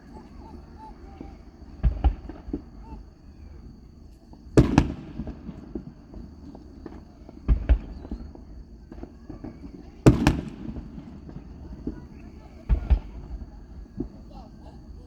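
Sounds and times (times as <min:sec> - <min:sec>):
fireworks bangs: 0:00.0 - 0:15.0
small firework pops: 0:01.0 - 0:15.0.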